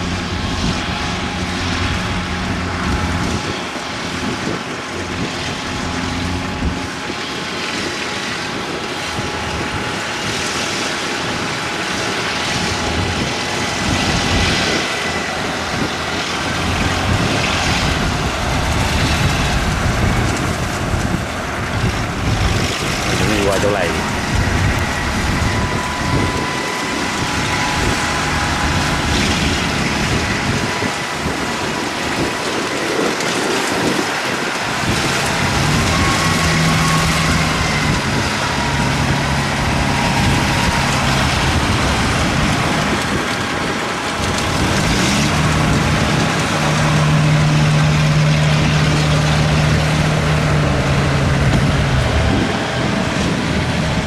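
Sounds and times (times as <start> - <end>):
diesel engine hum: 0.0 - 54.0
machinery clatter: 0.0 - 54.0
thin machine whine: 5.9 - 54.0.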